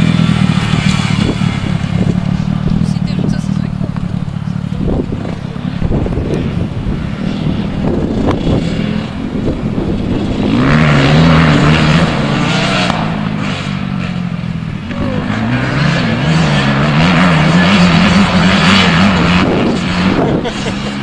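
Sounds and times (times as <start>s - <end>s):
dirt bike accelerating hard: 0.0s - 21.0s
dirt bike engines revving: 0.0s - 21.0s.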